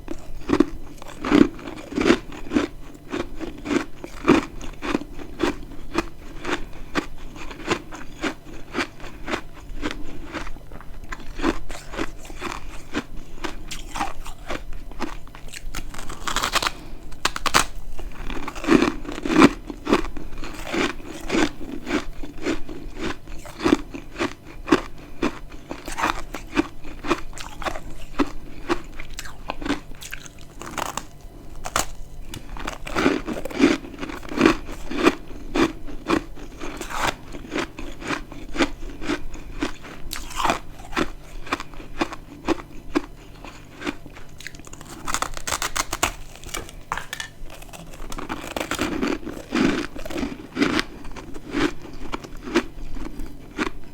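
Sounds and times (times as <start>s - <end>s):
person chewing crunchy frost: 0.0s - 53.9s.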